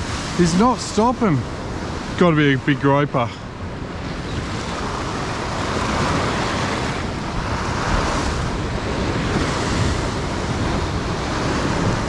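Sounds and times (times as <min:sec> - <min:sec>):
ocean surf on rocks: 0:00.0 - 0:12.0
wind buffeting microphone: 0:00.0 - 0:12.0.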